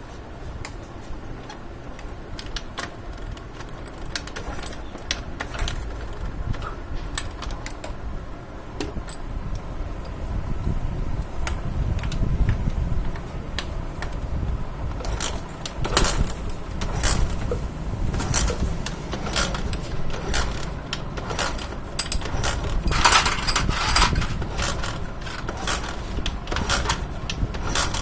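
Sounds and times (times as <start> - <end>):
steady low rumble: 3.1 - 28.0.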